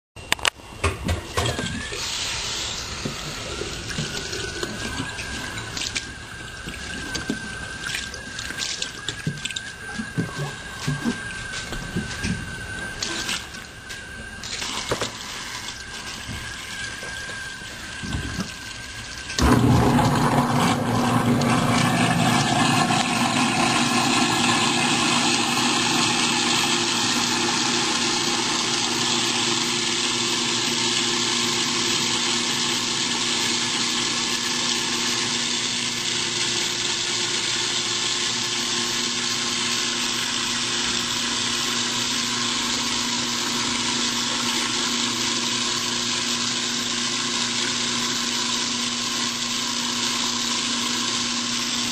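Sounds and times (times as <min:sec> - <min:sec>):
tap water running: 0:01.0 - 0:51.9
garbage disposer grinding: 0:01.1 - 0:51.9.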